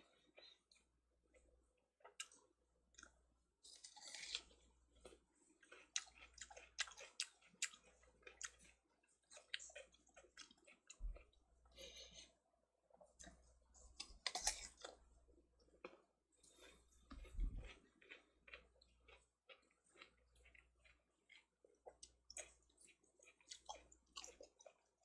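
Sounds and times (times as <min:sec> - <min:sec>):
wet chewing of melon: 0:00.1 - 0:12.2, 0:15.8 - 0:25.0.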